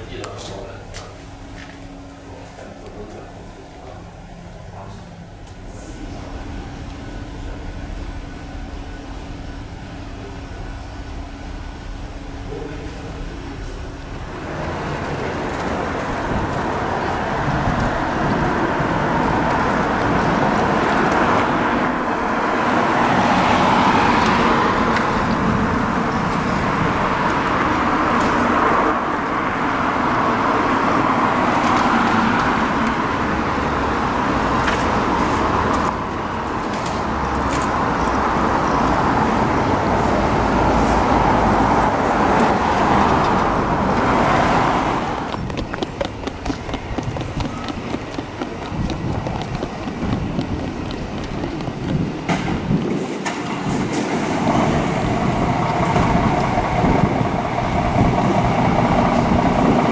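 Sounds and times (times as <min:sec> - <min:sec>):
cars passing: 0:00.0 - 0:59.9.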